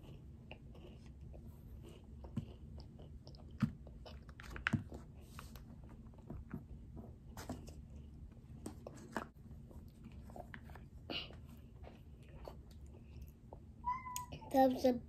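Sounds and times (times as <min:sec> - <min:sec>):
child chewing: 0:00.0 - 0:07.0, 0:07.8 - 0:14.3.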